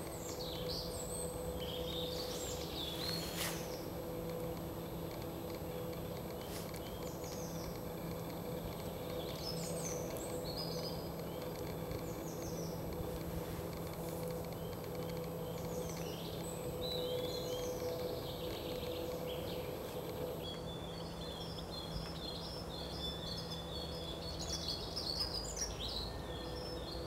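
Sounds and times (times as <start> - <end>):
songbirds chirping: 0.0 - 27.0
steady low hum: 0.0 - 27.0.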